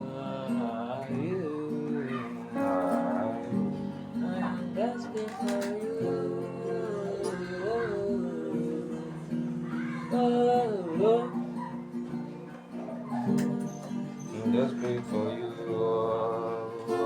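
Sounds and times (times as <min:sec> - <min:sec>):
slow worship music on guitar: 0:00.0 - 0:17.0.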